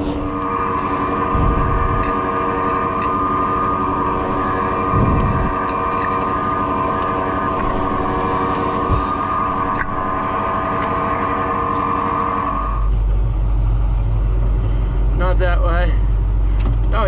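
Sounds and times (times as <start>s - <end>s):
tractor high whine: 0.0s - 17.0s.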